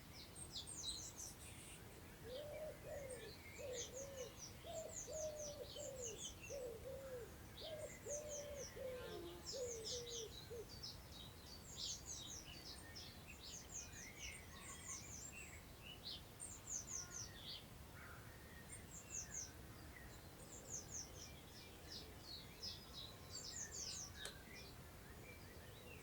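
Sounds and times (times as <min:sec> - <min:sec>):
distant songbirds singing: 0:00.0 - 0:26.0.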